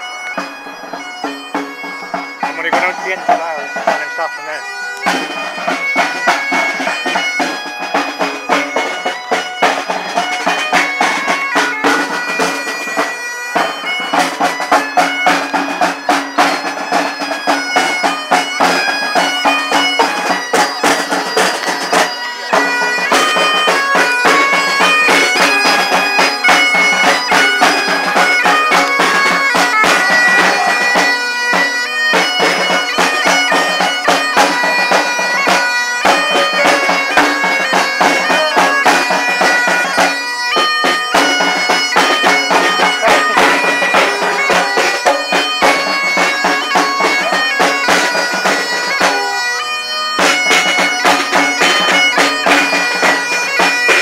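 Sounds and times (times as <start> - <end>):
bagpipes playing marching tune: 0.0 - 54.0
drum beating: 0.0 - 54.0.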